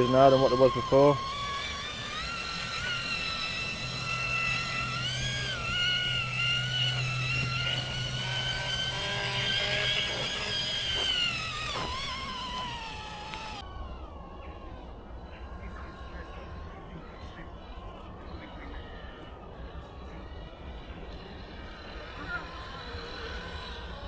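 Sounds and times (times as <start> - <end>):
rc car motor whining: 0.0 - 24.0.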